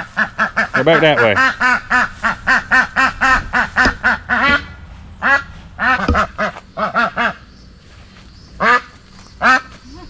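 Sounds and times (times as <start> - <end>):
ducks quacking: 0.0 - 7.5, 8.6 - 10.0.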